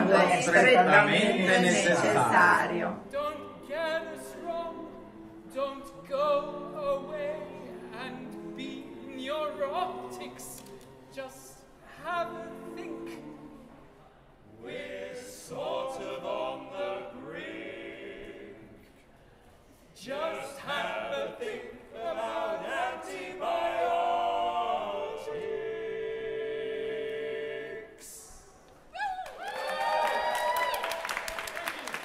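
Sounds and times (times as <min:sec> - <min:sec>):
group of voices singing: 0:00.0 - 0:19.0, 0:20.0 - 0:28.5.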